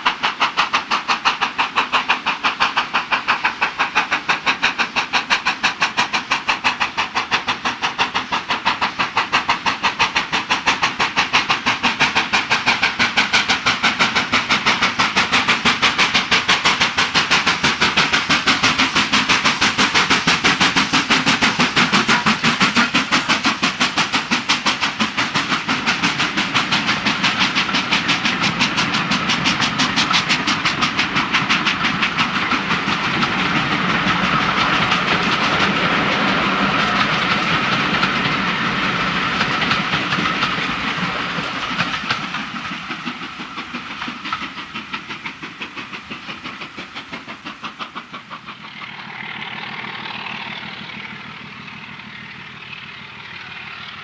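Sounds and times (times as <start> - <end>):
steam locomotive exhaust beating: 0.0 - 54.0
train coaches rumbling: 0.0 - 54.0
wheels clicking over rail joints: 0.0 - 54.0.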